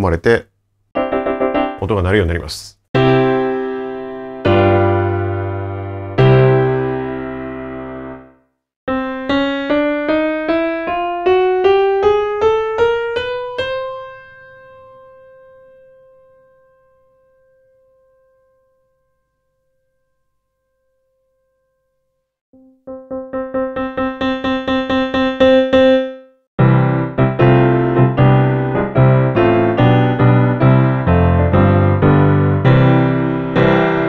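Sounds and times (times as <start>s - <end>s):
grand piano notes and chords: 1.0s - 34.0s.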